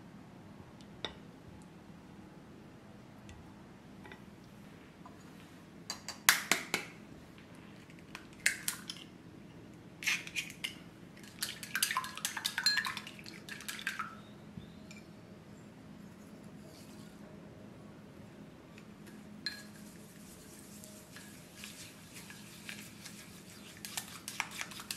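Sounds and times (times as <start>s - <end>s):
low room hum: 0.0s - 24.9s.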